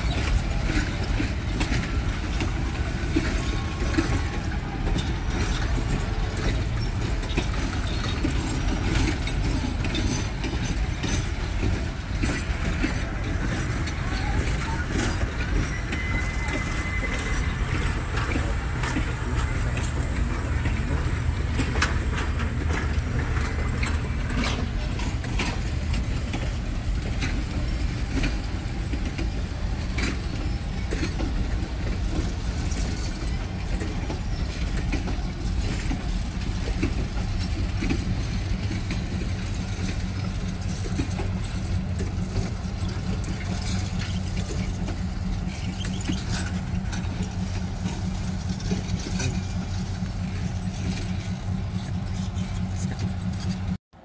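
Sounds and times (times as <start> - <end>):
wheel and coupler clicks: 0.0 - 53.8
train wheels rumbling on rails: 0.0 - 54.0.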